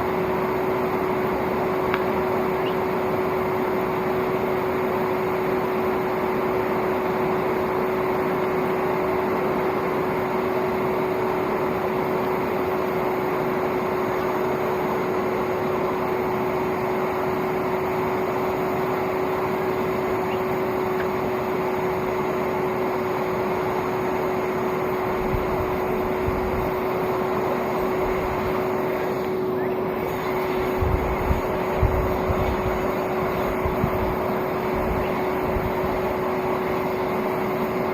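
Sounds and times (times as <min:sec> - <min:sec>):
vacuum cleaner motor humming: 0:00.0 - 0:37.9.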